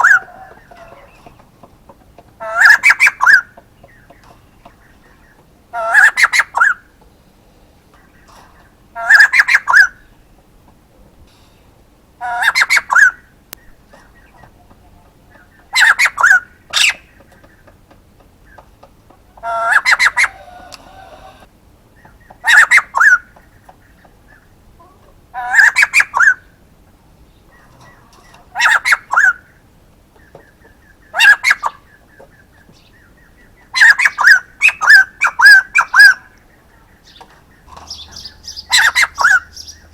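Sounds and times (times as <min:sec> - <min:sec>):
bird calling in rapid chattering: 0:00.0 - 0:06.9, 0:08.0 - 0:10.2, 0:12.2 - 0:24.5, 0:27.4 - 0:39.9.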